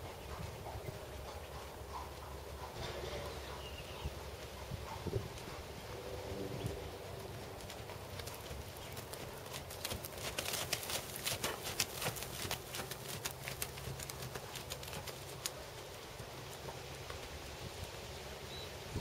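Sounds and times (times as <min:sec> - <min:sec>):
horse hoofbeats on sand: 0:00.0 - 0:18.3.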